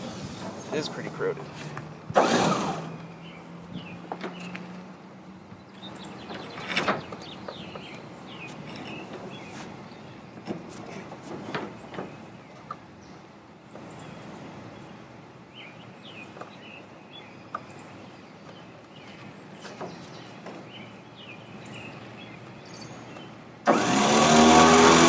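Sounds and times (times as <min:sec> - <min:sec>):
small birds chirping: 0:02.8 - 0:23.5.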